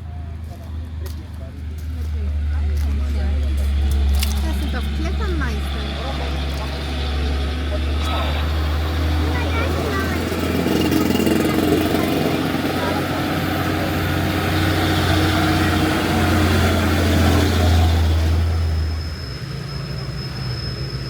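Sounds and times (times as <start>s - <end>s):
car engine drone: 0.0s - 21.0s
road noise: 0.0s - 21.0s.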